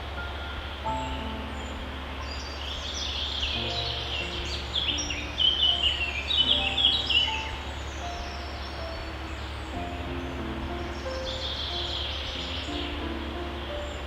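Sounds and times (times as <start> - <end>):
soft background music: 0.0 - 14.0
songbirds chirping: 0.0 - 14.0
steady hiss and low hum: 0.0 - 14.0.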